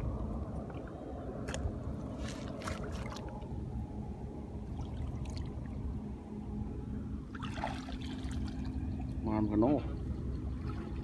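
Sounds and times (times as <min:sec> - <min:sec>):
low outdoor rumble: 0:00.0 - 0:11.0
water splashing and sloshing: 0:00.0 - 0:11.0.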